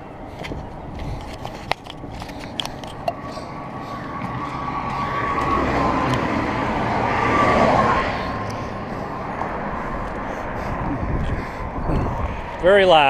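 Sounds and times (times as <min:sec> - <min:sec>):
highway traffic passing: 0:00.0 - 0:13.0
steady high whine: 0:00.0 - 0:13.0.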